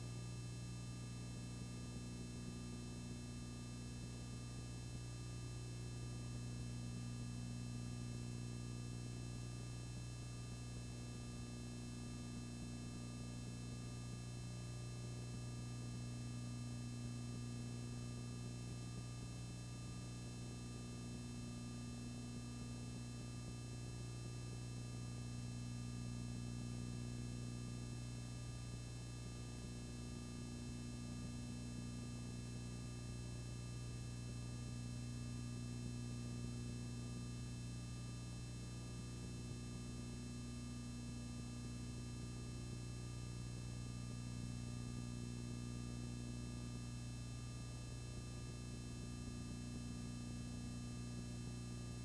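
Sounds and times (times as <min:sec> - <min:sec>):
electrical hum with faint hiss: 0:00.0 - 0:52.0.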